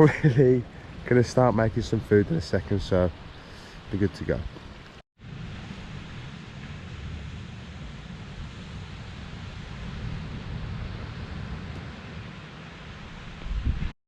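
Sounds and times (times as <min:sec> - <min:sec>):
wind buffeting microphone: 0:00.0 - 0:13.9
rushing wind: 0:00.0 - 0:14.0.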